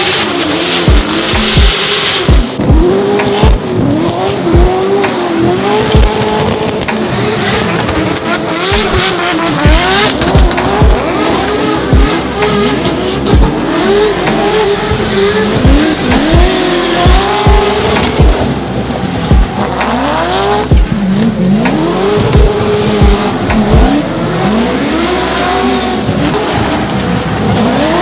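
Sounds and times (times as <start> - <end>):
background music with heavy thumps: 0.0 - 28.0
car engines revving: 0.0 - 28.0.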